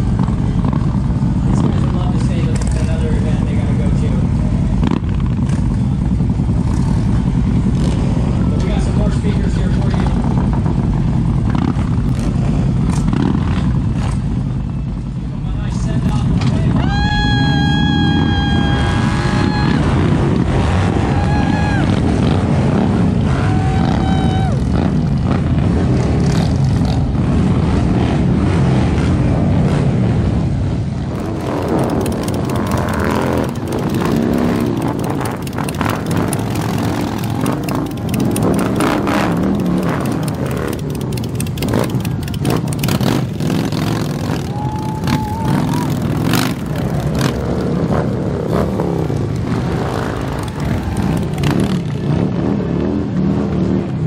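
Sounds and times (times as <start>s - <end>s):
motorcycle engines roaring and revving: 0.0s - 54.0s.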